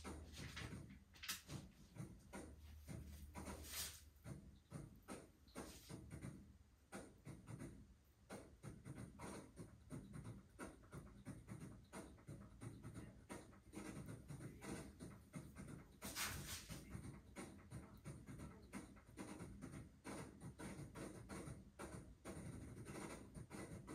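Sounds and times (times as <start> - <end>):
hands and tools scratching clay: 0.0 - 23.9.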